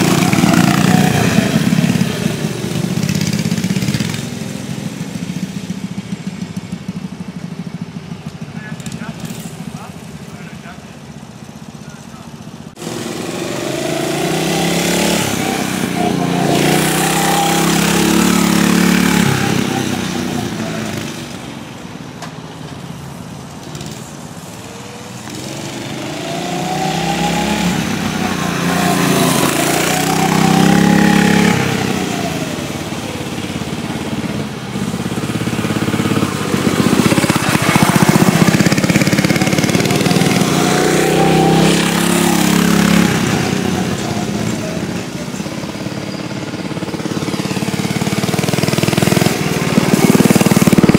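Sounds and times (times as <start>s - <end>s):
mini bike engine revving: 0.0s - 22.0s, 23.4s - 50.9s.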